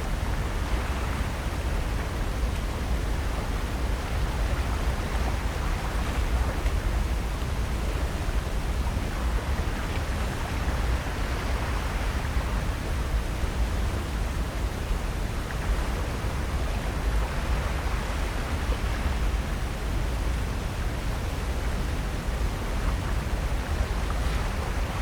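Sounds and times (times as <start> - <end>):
ocean surf washing: 0.0 - 25.0.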